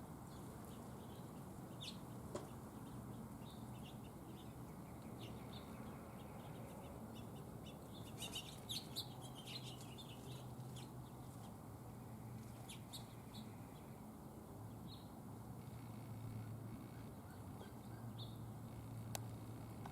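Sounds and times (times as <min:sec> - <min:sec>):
small birds chirping: 0:00.1 - 0:19.9.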